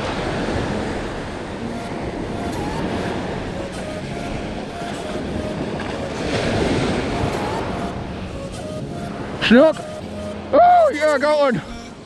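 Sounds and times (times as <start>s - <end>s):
surf washing up beach: 0.0s - 11.6s.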